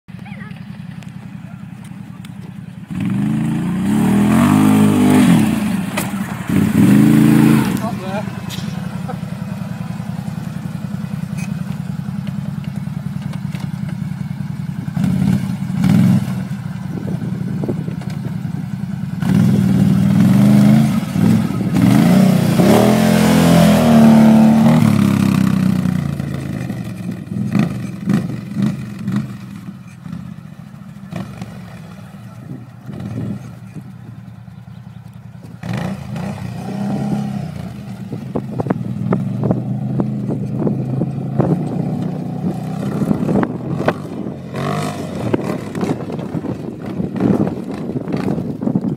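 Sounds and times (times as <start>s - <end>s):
quad engine revving: 0.1s - 48.9s.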